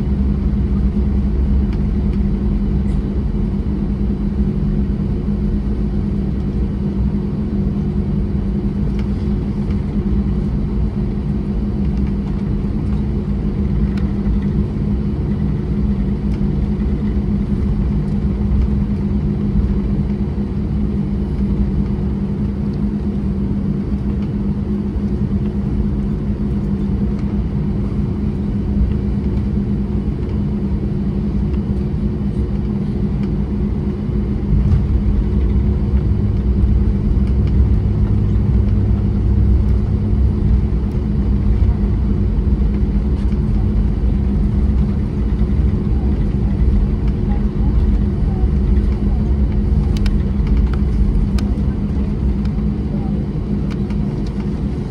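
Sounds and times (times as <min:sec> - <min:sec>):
jet engine cabin rumble: 0:00.0 - 0:54.9.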